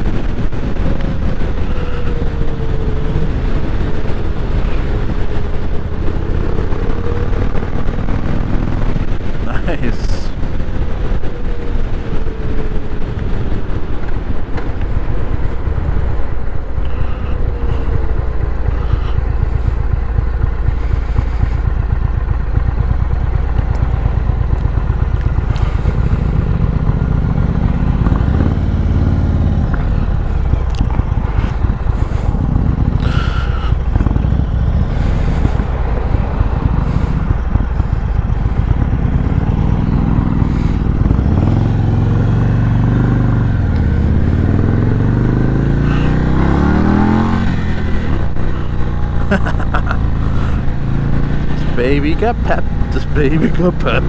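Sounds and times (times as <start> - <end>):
wind rush on microphone: 0.0 - 53.6
motorcycle engine running: 0.0 - 54.0.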